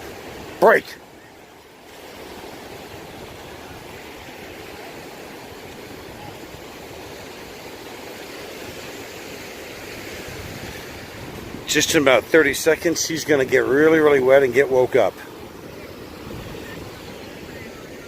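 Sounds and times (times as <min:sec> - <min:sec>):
ocean waves breaking on beach: 0:00.0 - 0:18.0.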